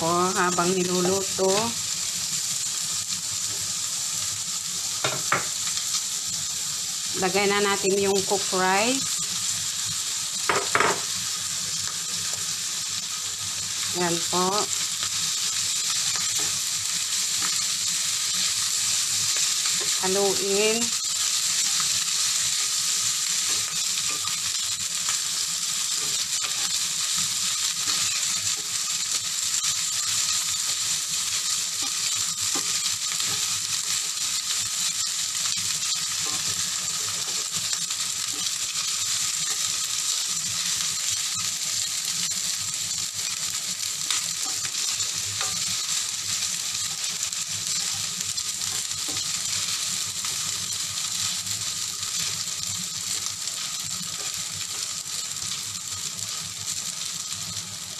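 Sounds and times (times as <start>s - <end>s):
fried rice sizzling in a pan: 0.0s - 57.9s.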